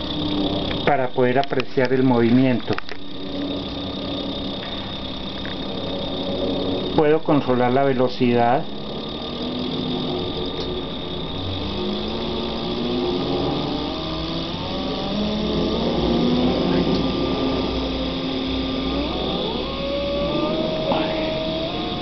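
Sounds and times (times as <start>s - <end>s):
stepper motor whine: 0.0s - 22.0s.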